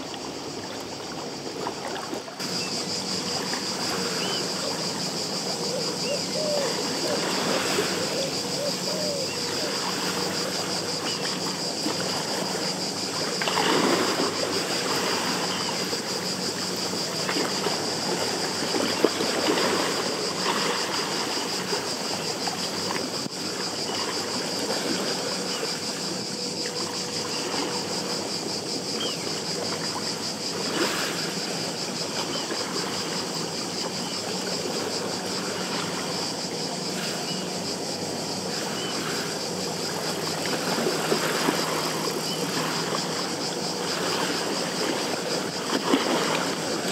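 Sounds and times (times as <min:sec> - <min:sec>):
distant motorboat drone: 0:00.0 - 0:46.9
insect chorus pulsing: 0:00.0 - 0:46.9
water lapping at shore: 0:00.0 - 0:46.9.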